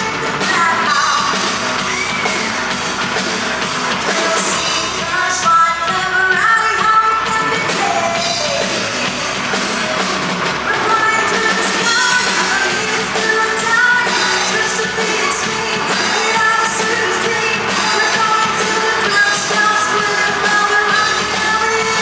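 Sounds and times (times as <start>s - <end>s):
music with singing: 0.0s - 22.0s.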